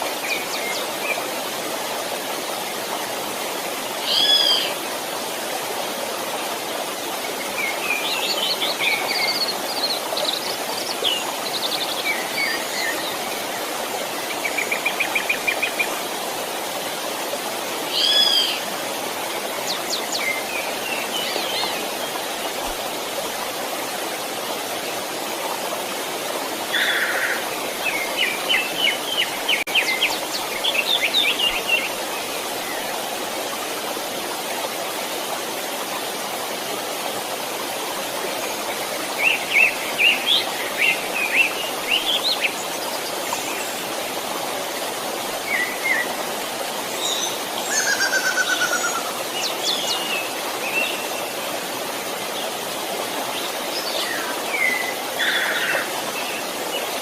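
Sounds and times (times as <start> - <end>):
flowing stream: 0.0 - 57.0.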